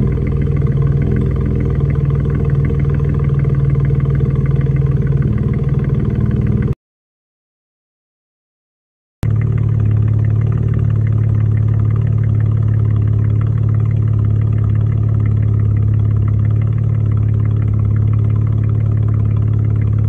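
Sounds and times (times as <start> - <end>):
car engine idling: 0.0 - 6.8, 9.2 - 20.0.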